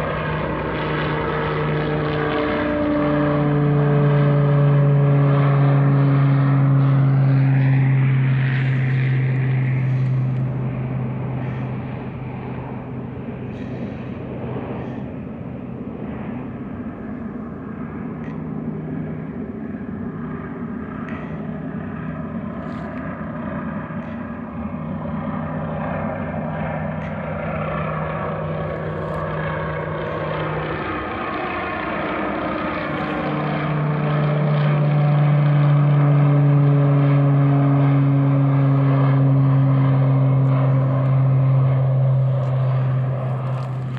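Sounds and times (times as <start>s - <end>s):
propeller airplane flying past: 0.0s - 43.9s.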